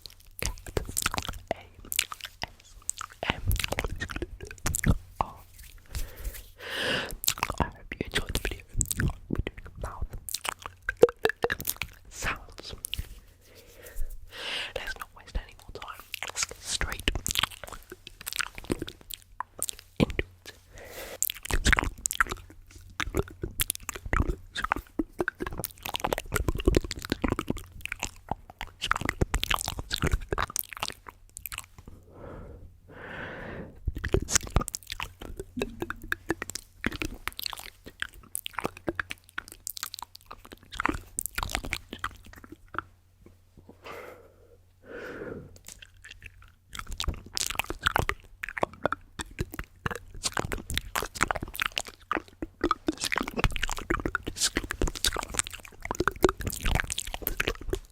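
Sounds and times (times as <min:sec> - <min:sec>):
breathy mouth noises: 0:00.0 - 0:57.9.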